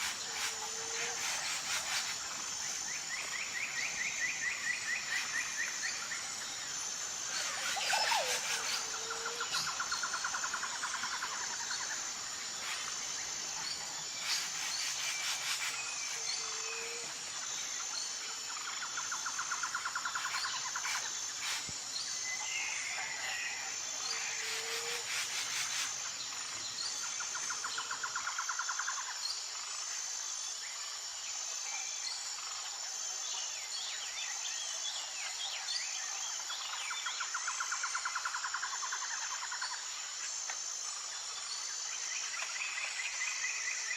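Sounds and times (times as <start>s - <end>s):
insect chirping in pulsing tone: 0.0s - 43.9s.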